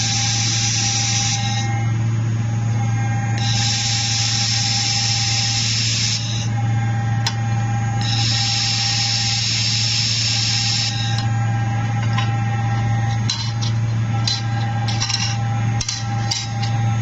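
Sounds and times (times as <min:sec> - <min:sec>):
laser welder buzzing hum: 0:00.0 - 0:17.0.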